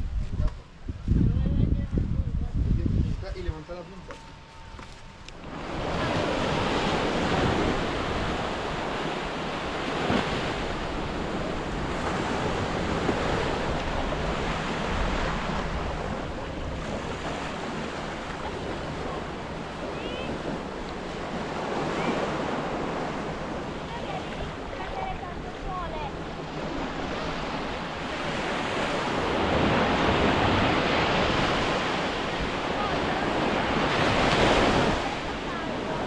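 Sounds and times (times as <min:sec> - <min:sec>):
wind buffeting microphone: 0:00.0 - 0:36.0
ocean surf washing on beach: 0:05.4 - 0:36.0.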